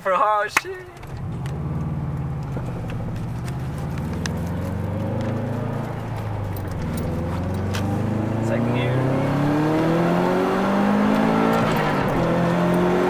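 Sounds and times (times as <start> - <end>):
car engine accelerating: 0.9 - 13.0.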